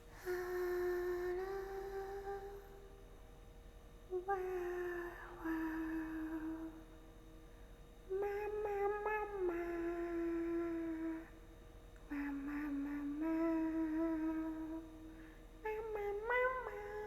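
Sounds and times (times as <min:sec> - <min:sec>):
woman humming cooing tones: 0:00.2 - 0:03.0, 0:04.1 - 0:06.9, 0:08.1 - 0:11.3, 0:12.1 - 0:17.0.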